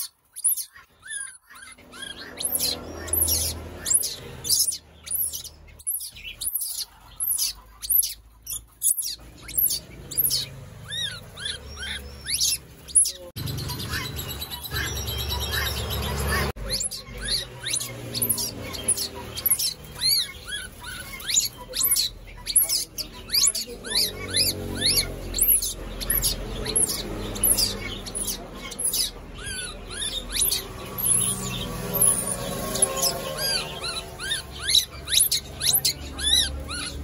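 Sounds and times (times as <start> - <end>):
baby monkey squeaking: 0.0 - 37.0
faint bird chirps: 0.0 - 37.0.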